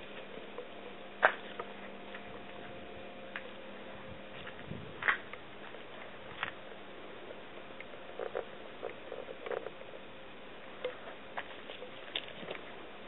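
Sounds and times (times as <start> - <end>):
rustling of dry grass and leaves: 0.0 - 13.0.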